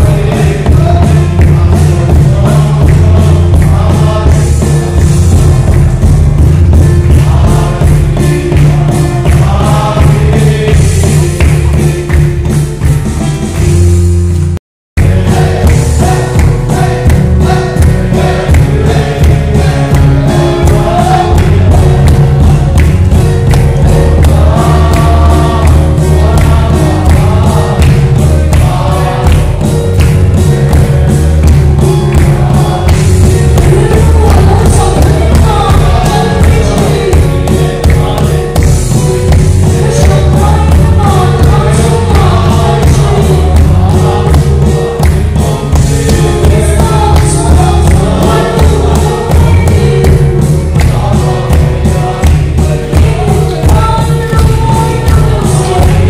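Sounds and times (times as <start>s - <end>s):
congregation singing a hymn: 0.0s - 14.0s, 15.0s - 56.0s
steady drum beat: 0.0s - 56.0s.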